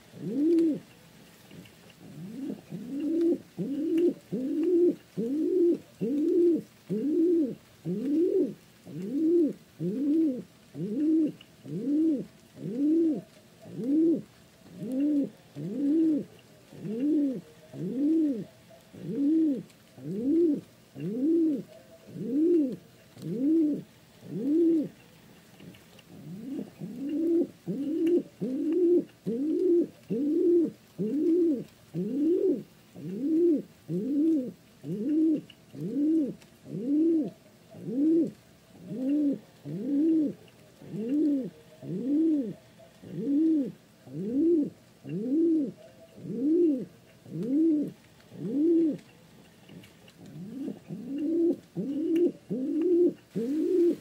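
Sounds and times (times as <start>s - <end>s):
pigeon cooing: 0.0s - 0.9s, 1.5s - 25.0s, 25.6s - 54.0s.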